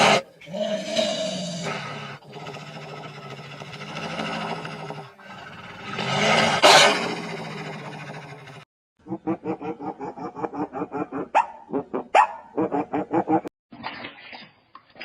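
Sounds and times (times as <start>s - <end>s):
animal barking: 0.0s - 13.5s.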